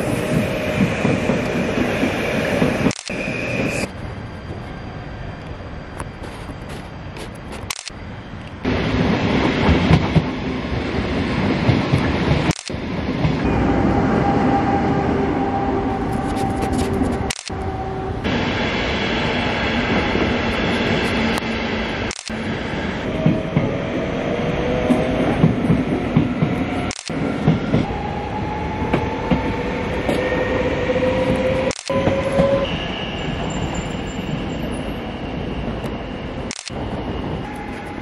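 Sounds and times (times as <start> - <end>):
passenger trains rumbling: 0.0 - 38.0.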